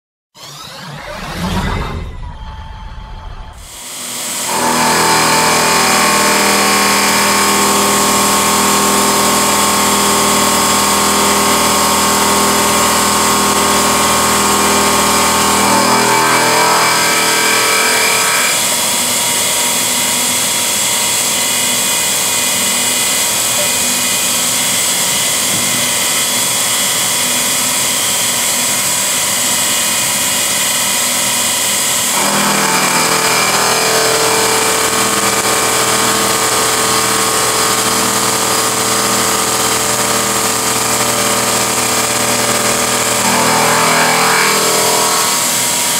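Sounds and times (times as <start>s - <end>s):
milling machine cutting metal: 0.4s - 45.9s.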